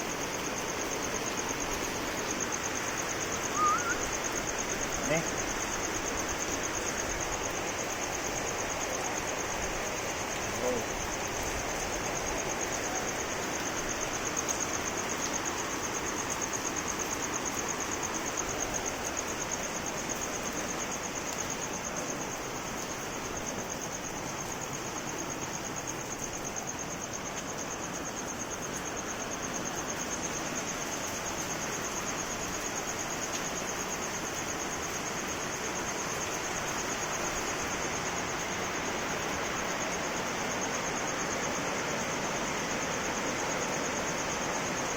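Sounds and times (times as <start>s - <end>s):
high-pitched insect trill: 0.0s - 44.9s
steady rain falling: 0.0s - 44.9s.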